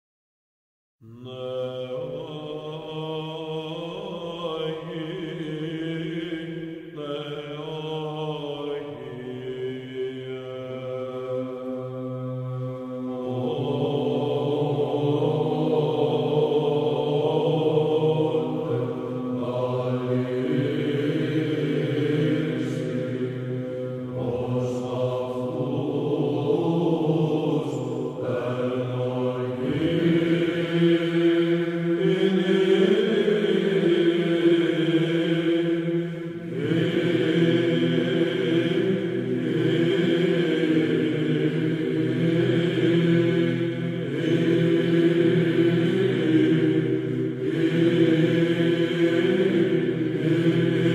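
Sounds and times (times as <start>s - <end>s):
slow vocal chant: 1.0s - 50.9s.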